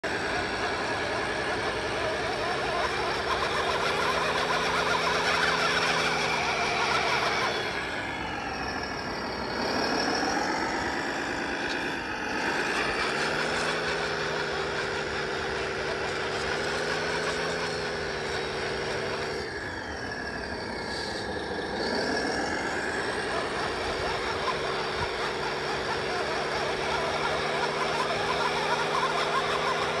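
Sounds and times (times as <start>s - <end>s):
electronic truck engine sound: 0.0s - 30.0s
high electronic whine: 0.0s - 30.0s.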